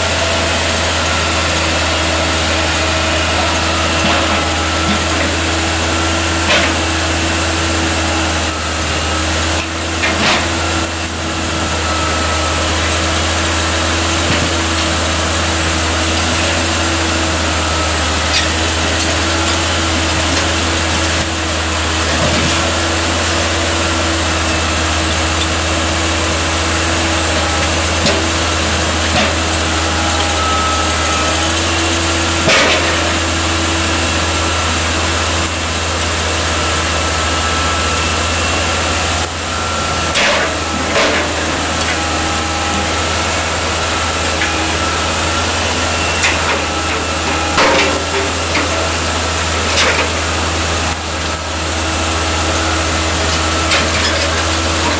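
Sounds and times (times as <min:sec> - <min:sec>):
crane diesel engine running: 0:00.0 - 0:54.9.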